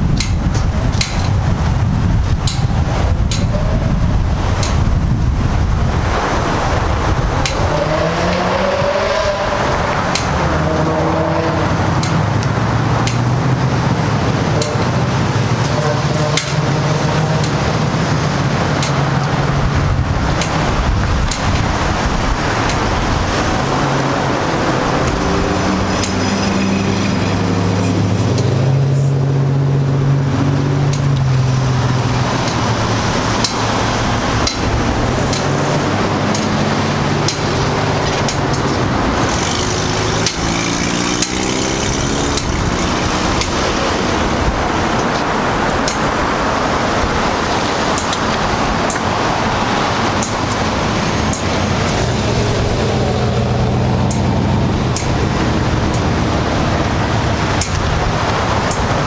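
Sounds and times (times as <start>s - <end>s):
road traffic rushing: 0.0s - 59.0s.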